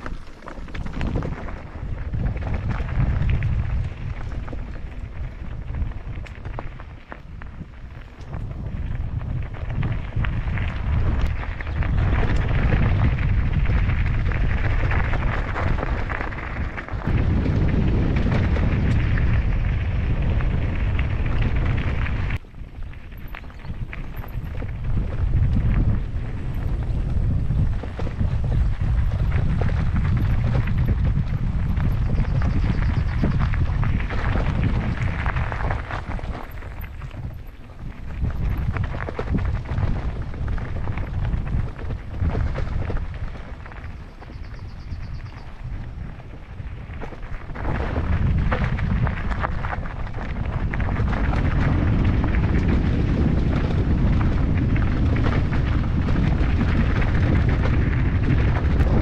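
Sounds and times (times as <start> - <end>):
bike rattling and ticking: 0.0 - 59.0
wind buffeting microphone: 0.0 - 59.0.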